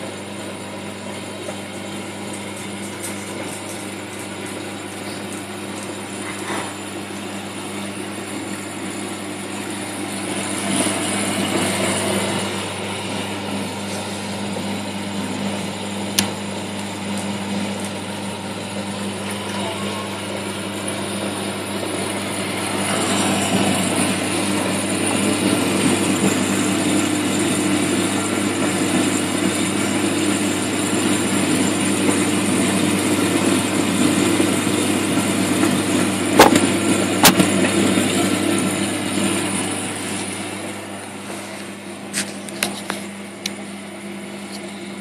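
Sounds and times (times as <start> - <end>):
pump hum: 0.0 - 45.0.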